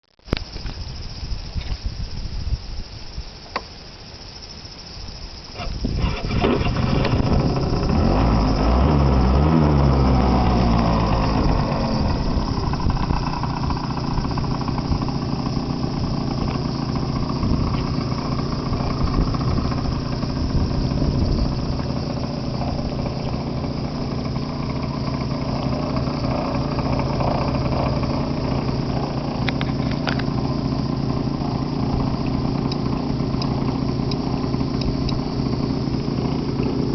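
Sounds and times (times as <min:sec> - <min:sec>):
scooter engine starting and idling: 0:05.5 - 0:36.9.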